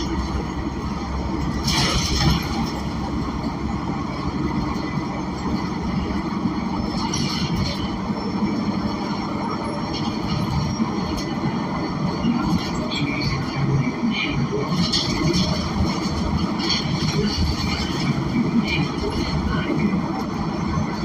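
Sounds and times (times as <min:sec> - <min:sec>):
bus engine and transmission: 0:00.0 - 0:21.0
road noise: 0:00.0 - 0:21.0.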